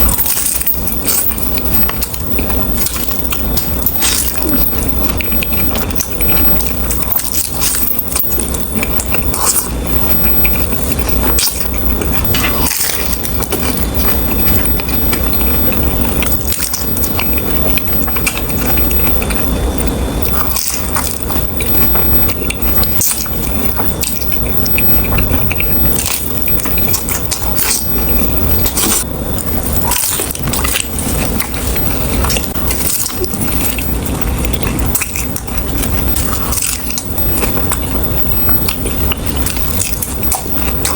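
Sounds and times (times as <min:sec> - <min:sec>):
chewing a taco: 0:00.0 - 0:40.9
crackly bites: 0:00.0 - 0:40.9.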